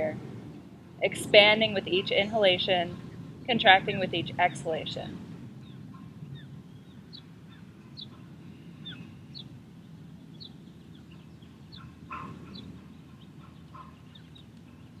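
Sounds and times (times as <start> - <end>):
low outdoor rumble: 0.0 - 15.0
birds chirping: 0.5 - 15.0.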